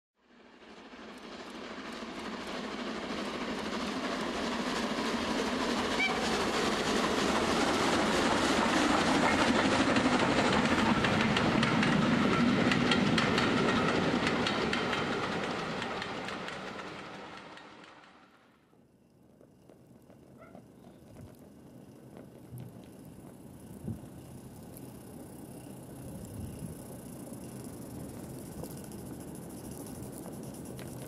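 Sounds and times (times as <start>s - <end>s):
model steam locomotive running: 0.3s - 31.0s
rapid clicking on track: 0.6s - 18.4s, 19.0s - 31.0s.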